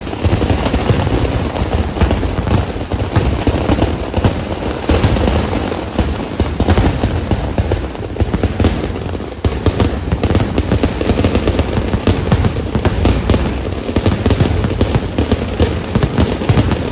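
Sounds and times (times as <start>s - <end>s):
firecracker bangs: 0.0s - 16.9s.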